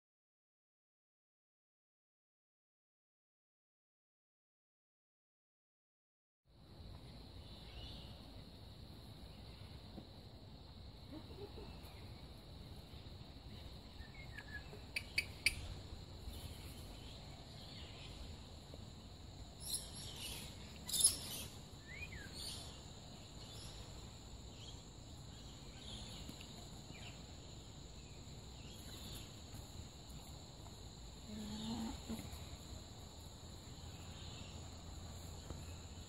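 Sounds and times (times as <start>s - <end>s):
high insect drone: 6.6s - 36.0s.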